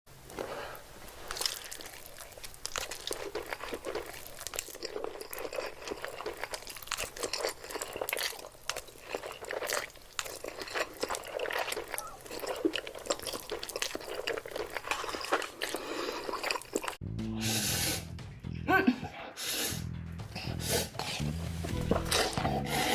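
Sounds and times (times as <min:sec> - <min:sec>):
person chewing crunchy food: 0:00.2 - 0:17.0, 0:20.4 - 0:22.9.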